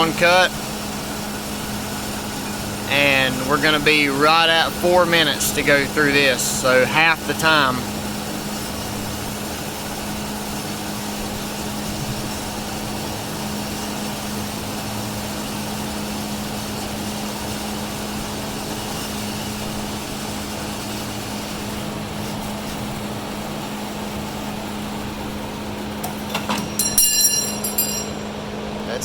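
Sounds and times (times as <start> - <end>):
bandsaw motor humming: 0.0 - 29.0.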